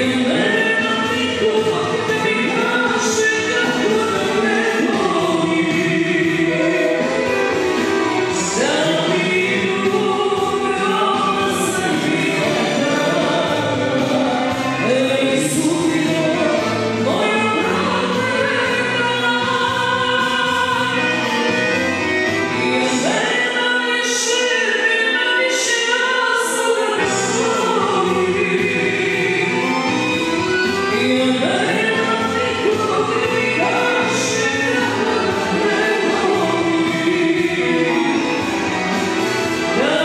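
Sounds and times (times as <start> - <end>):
man and woman singing: 0.0 - 21.8, 22.5 - 40.0
amplified band music: 0.0 - 40.0.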